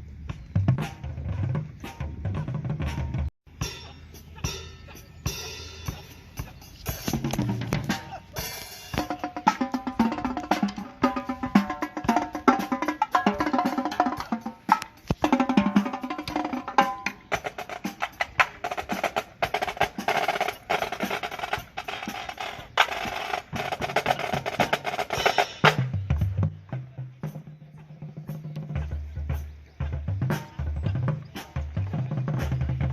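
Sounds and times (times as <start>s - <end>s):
drum corps percussion playing: 0.2s - 32.9s
pitched percussion notes: 0.6s - 32.9s.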